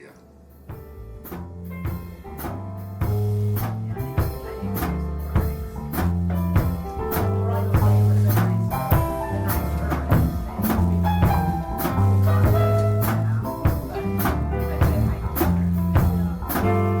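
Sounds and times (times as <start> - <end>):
jazz-rock band playing: 0.0 - 17.0.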